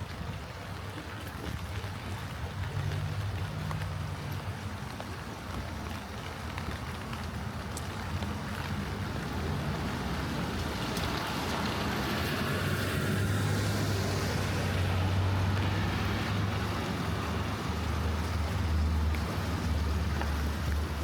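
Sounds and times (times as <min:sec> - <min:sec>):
light rain: 0:00.0 - 0:21.0
car tyres hissing on wet street: 0:01.8 - 0:21.0.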